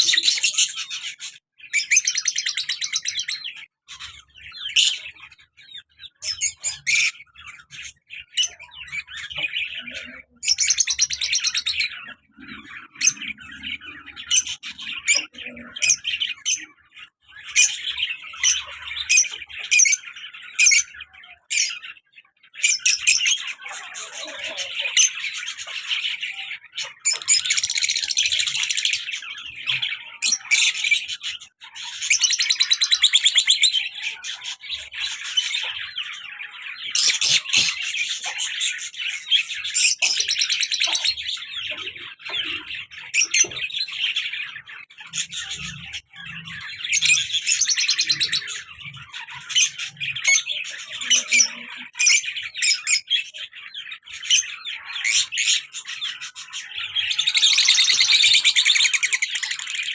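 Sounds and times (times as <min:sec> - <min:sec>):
lovebirds chattering: 0:00.0 - 0:59.9.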